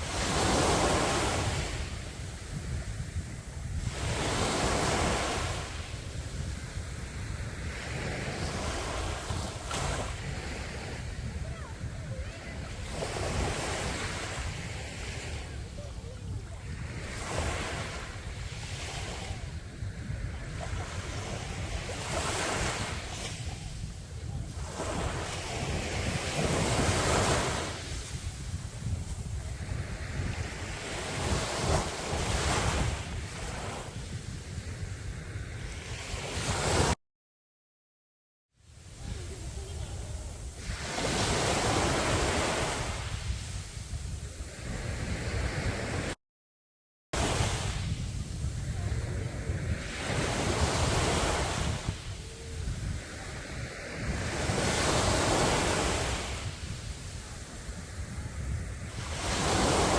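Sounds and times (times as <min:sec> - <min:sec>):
sea waves breaking on beach: 0:00.0 - 0:37.0, 0:38.8 - 0:46.2, 0:47.2 - 0:59.9
wind rumble on microphone: 0:00.0 - 0:37.0, 0:38.6 - 0:46.2, 0:47.2 - 0:59.9.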